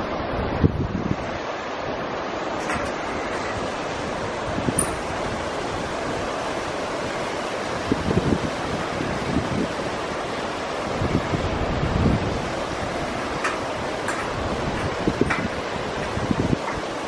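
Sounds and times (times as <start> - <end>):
wind buffeting microphone: 0.0 - 1.6, 2.3 - 17.0
river rushing over rocks: 0.0 - 17.0.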